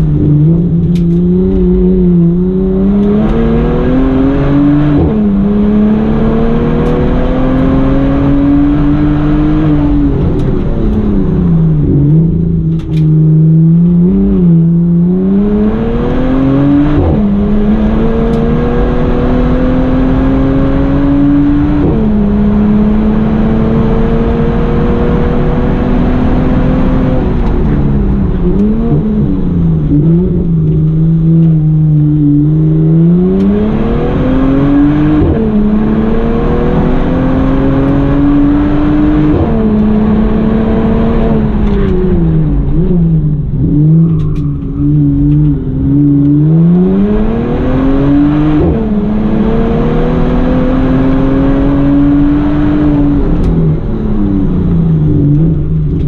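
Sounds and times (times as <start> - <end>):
car engine accelerating hard: 0.0 - 56.0
engine blips on downshifts: 0.0 - 56.0.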